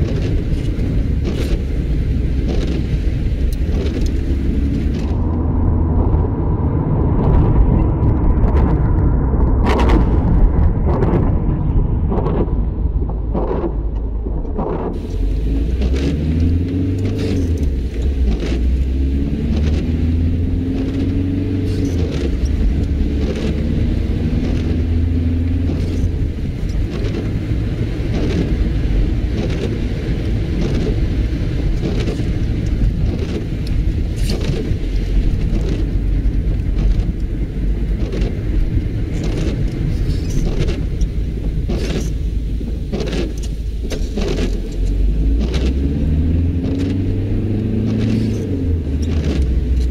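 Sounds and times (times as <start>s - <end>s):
car engine and road rumble: 0.0s - 49.9s
windscreen wipers sweeping: 0.0s - 49.9s.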